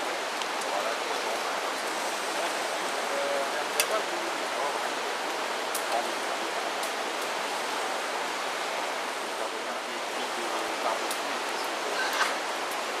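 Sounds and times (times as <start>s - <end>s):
campfire rushing hiss: 0.0s - 13.0s.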